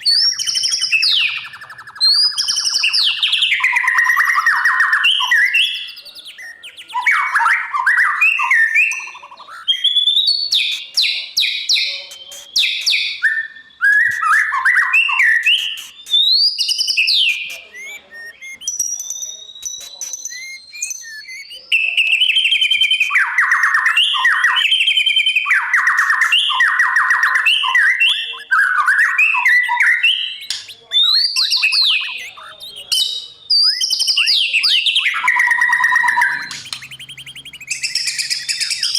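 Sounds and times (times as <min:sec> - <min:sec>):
bird singing whistles: 0:00.0 - 0:38.9.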